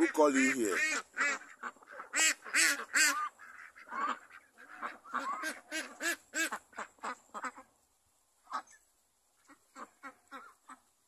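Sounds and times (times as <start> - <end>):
ducks quacking: 0.0 - 7.8, 8.4 - 8.8, 9.4 - 10.9.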